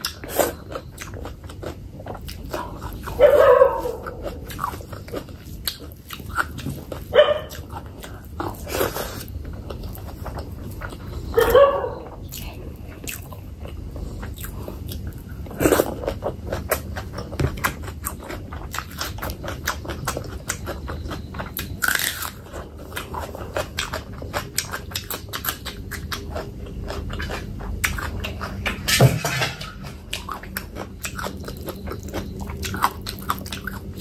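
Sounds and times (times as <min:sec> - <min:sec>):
chewing and wet mouth smacking: 0:00.0 - 0:28.8, 0:29.8 - 0:34.0.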